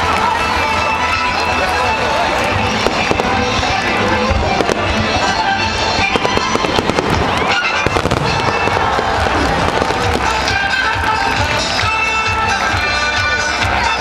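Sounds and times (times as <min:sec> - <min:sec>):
music playing: 0:00.0 - 0:14.0
fireworks bursting and crackling: 0:01.0 - 0:13.0.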